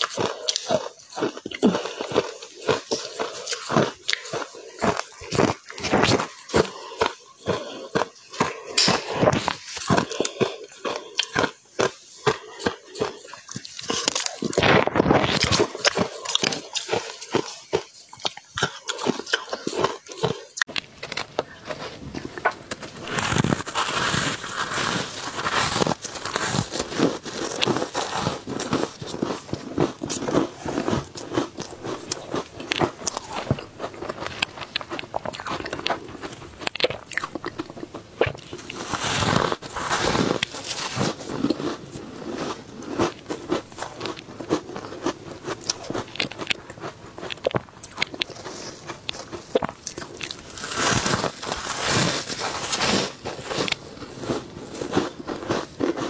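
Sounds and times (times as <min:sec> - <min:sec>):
crunching ice chewing: 0:00.0 - 0:56.0.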